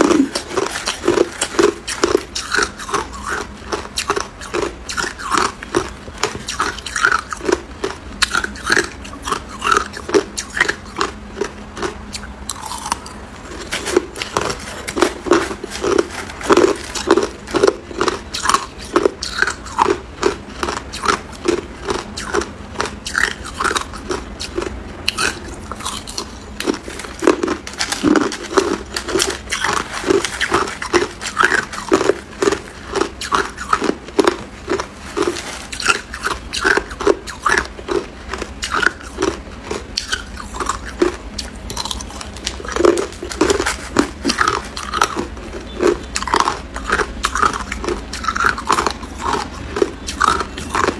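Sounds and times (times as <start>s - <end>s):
ice crunched between teeth: 0.0s - 50.9s.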